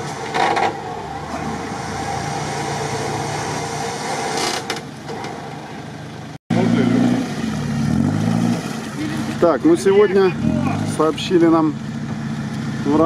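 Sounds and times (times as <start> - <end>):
engine running low: 0.0 - 13.0.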